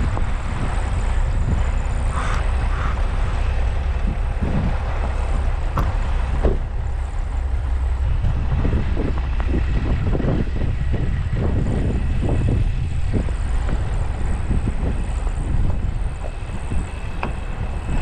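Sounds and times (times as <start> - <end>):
diesel farm machinery running: 0.0 - 18.0.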